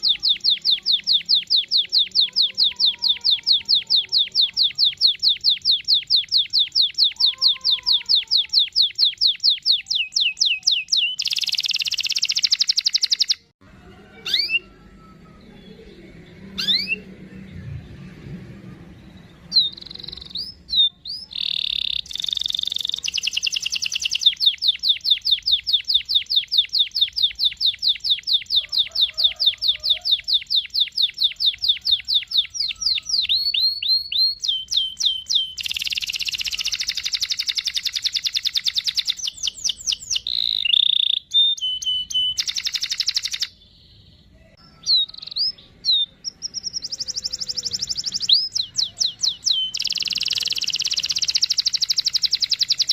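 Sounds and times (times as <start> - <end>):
canary singing: 0.0 - 52.9.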